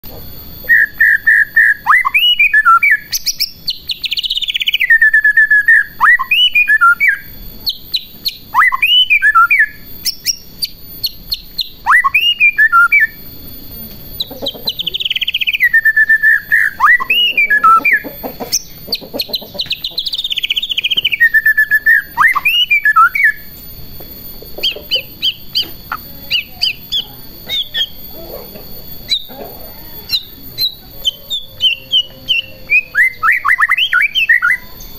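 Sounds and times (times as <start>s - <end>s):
bird singing whistles: 0.4s - 34.9s.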